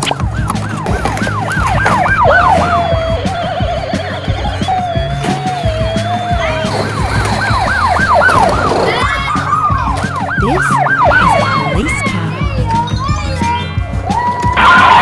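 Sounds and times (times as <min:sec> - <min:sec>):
toy sirens wailing: 0:00.0 - 0:12.5.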